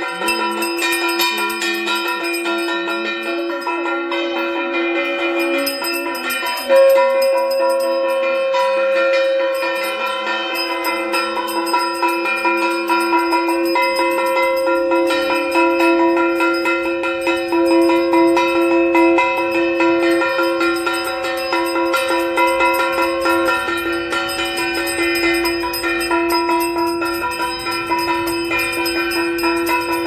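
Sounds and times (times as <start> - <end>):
bell rung rapidly: 0.0 - 30.0.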